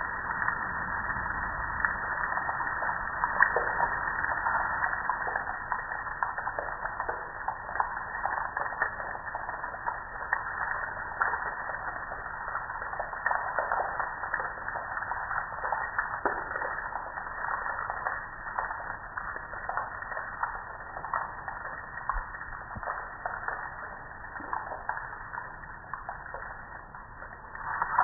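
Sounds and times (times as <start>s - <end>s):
dripping water: 0.0s - 28.0s.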